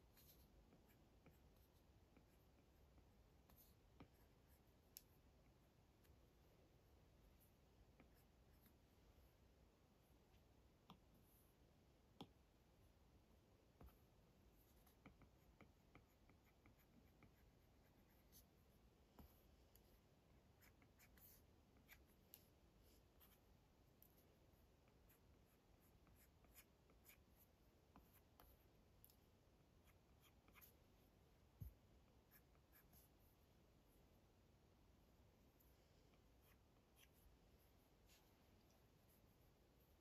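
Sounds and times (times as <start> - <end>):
stylus tapping and scratching on screen: 0.0 - 9.4, 10.1 - 12.7, 13.4 - 33.6, 35.4 - 40.0.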